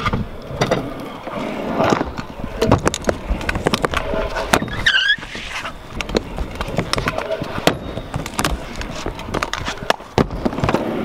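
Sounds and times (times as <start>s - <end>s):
scooter wheels rumbling: 0.0s - 11.0s.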